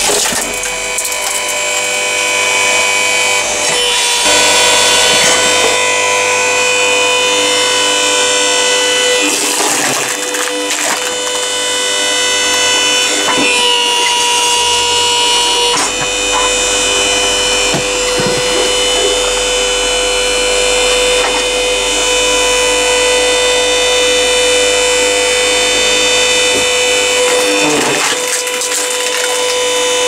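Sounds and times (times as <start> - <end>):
hydraulic pump motor whining: 0.0 - 30.0.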